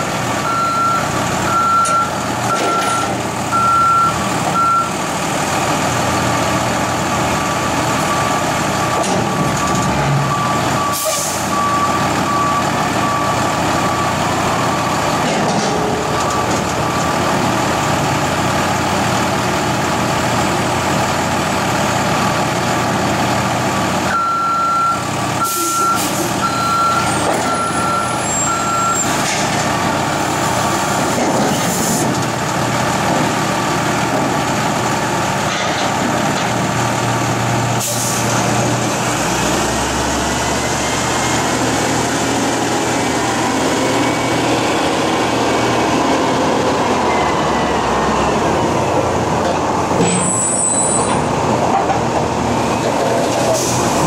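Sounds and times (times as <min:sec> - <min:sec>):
heavy truck engines running: 0:00.0 - 0:54.0.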